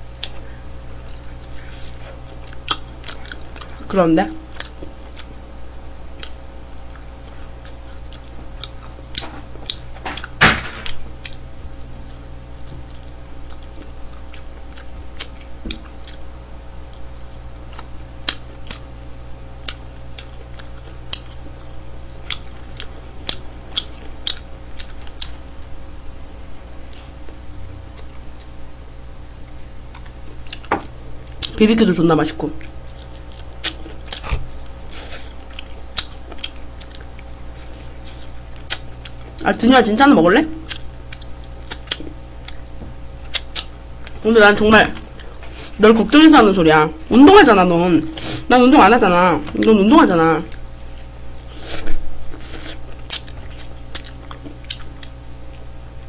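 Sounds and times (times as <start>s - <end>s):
chewing and lip smacking: 0.1s - 18.9s, 19.6s - 28.6s, 29.2s - 31.6s, 32.3s - 39.4s, 40.6s - 45.7s, 50.5s - 56.0s.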